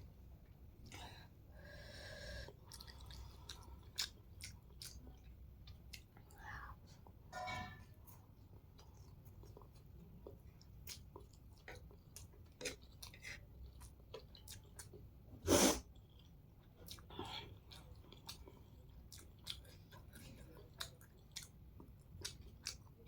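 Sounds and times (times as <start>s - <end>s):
person chewing noodles: 0.9s - 7.2s, 8.2s - 23.0s.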